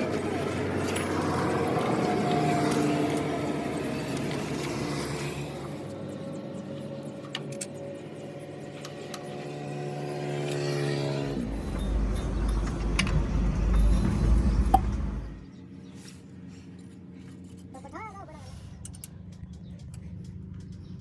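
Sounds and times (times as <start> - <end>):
motor humming and rumbling: 0.0 - 21.0.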